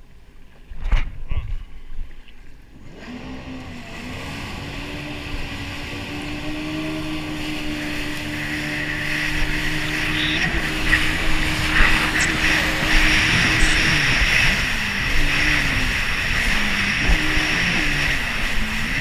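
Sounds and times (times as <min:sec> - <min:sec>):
jet ski engine drone: 0:01.6 - 0:19.0
water spray and wind rushing: 0:02.8 - 0:19.0.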